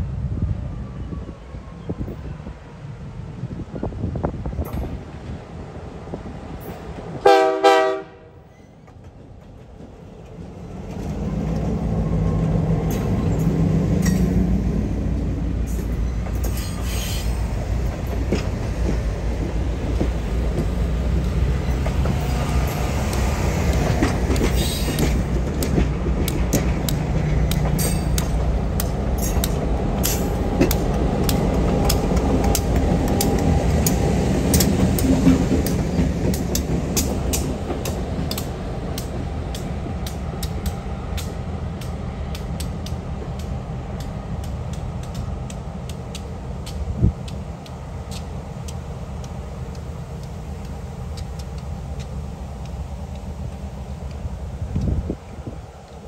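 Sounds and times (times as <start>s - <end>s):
locomotive engine rumble: 0.0s - 56.0s
wheels clicking over rail joints: 8.5s - 56.0s.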